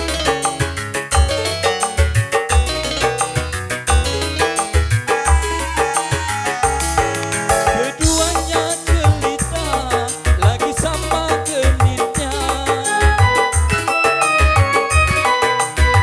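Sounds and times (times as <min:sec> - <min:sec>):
electronic keyboard music with drums: 0:00.0 - 0:16.0.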